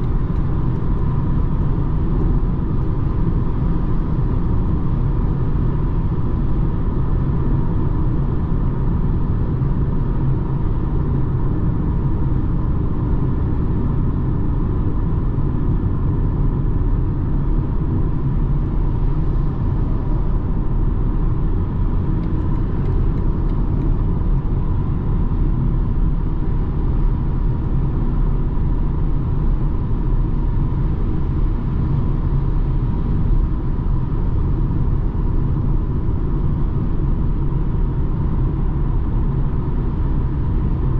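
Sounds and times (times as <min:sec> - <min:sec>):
car driving rumble: 0:00.0 - 0:40.9.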